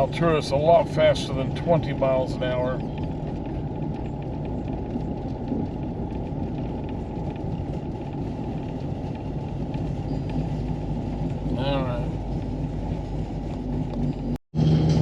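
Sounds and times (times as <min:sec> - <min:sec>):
tyres rumbling on snow: 0:00.0 - 0:15.0
vehicle engine drone: 0:00.0 - 0:15.0.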